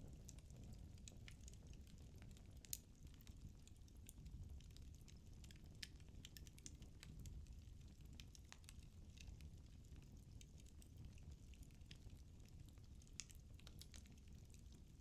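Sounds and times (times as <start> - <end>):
soft rumble of flames: 0.0 - 15.0
burning logs crackling: 0.3 - 15.0.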